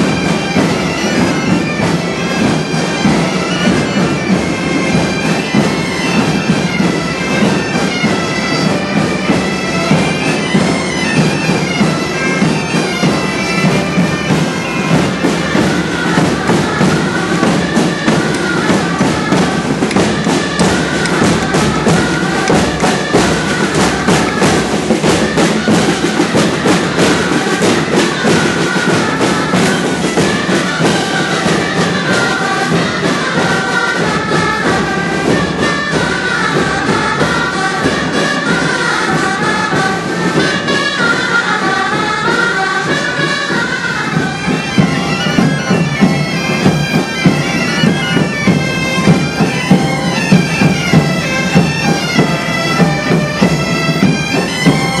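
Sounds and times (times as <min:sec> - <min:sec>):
bagpipes playing marching tune: 0:00.0 - 0:55.0
drumbeats: 0:00.0 - 0:55.0
shrill reed melody: 0:00.0 - 0:55.0.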